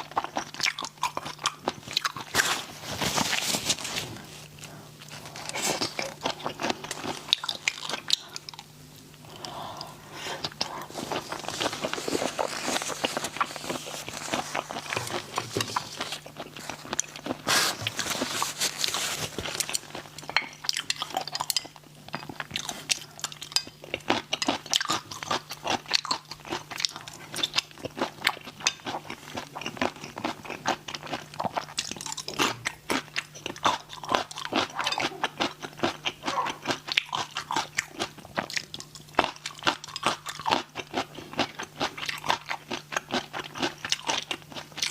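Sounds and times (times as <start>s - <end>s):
crunching and wet chewing: 0.0s - 44.9s.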